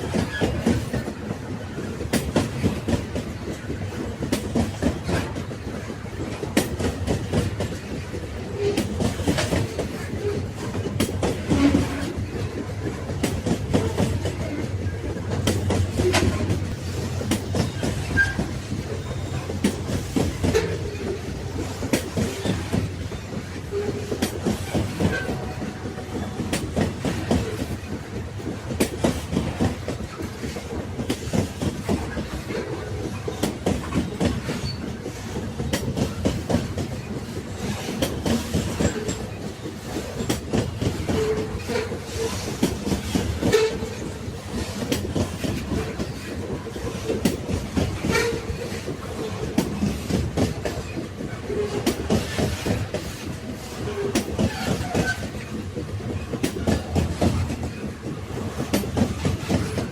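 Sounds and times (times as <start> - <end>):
railway carriages rumbling: 0.0 - 59.9
wheels clattering over rail joints: 0.0 - 59.9.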